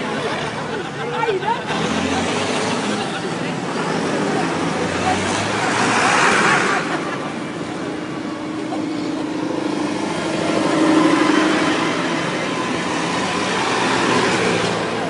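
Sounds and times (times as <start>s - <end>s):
tractor engines running: 0.0s - 15.0s.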